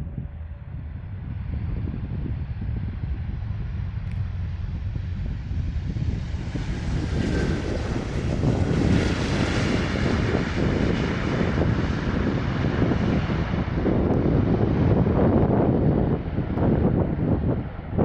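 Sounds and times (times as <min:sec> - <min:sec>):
jet airliner engines passing: 0:00.0 - 0:18.0.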